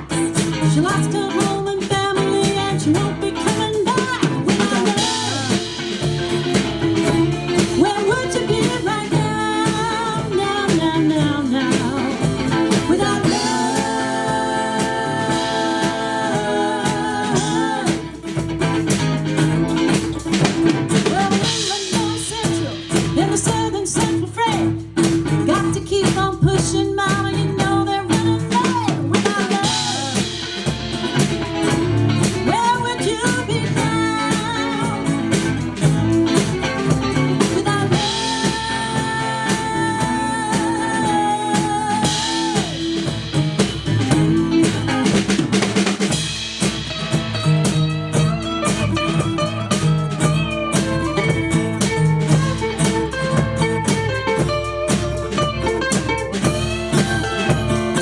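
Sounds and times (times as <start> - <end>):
bass drum: 0.0 - 58.0
live band playing: 0.0 - 58.0.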